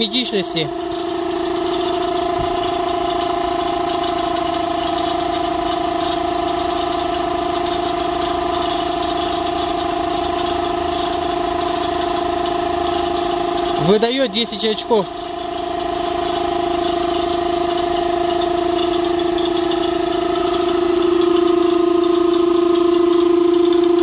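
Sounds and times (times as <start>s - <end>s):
air compressor running: 0.0s - 24.0s.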